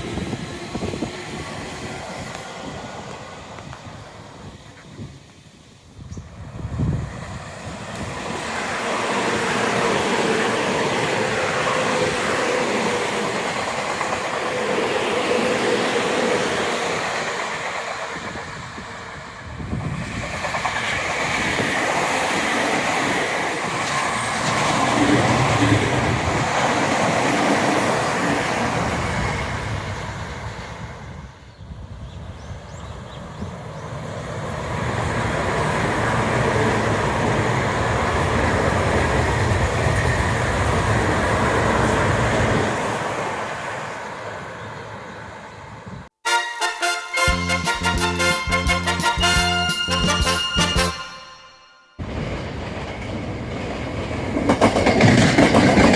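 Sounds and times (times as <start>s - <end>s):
train wheels rumbling on rails: 0.0s - 45.1s, 52.0s - 55.9s.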